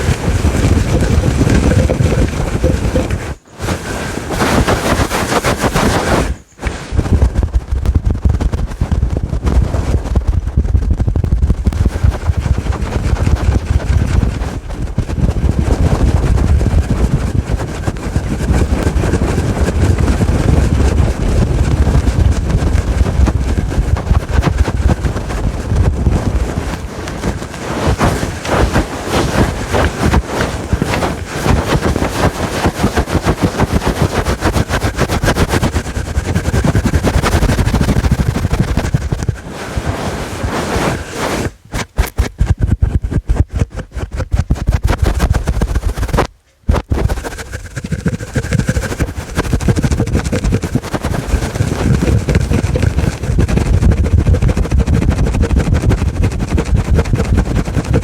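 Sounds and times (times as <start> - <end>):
scratching on microphone windscreen: 0.0 - 58.0.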